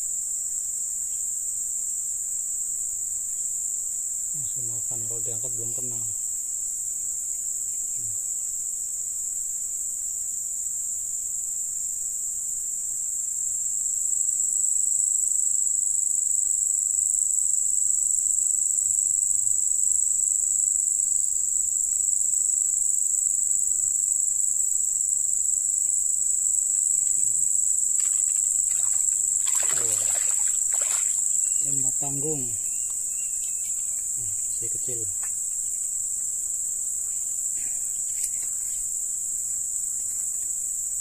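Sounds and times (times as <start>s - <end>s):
insects calling: 0.0s - 41.0s.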